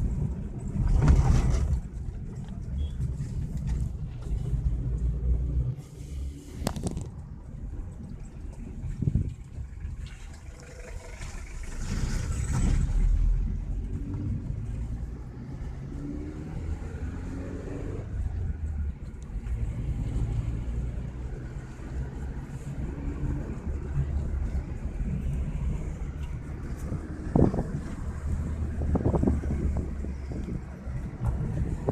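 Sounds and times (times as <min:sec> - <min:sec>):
car engine rumble: 0:00.0 - 0:31.9
road noise: 0:00.0 - 0:31.9.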